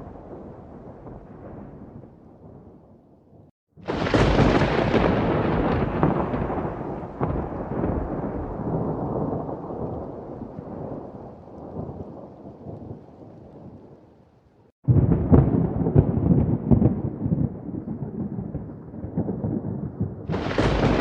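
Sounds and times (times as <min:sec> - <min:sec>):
thunder cracking and rumbling: 0:00.0 - 0:14.0, 0:14.8 - 0:21.0.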